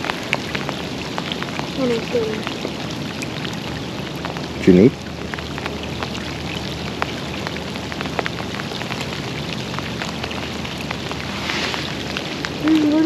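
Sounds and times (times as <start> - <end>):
heavy rain falling: 0.0 - 13.0
raindrops tapping near microphone: 0.0 - 13.0.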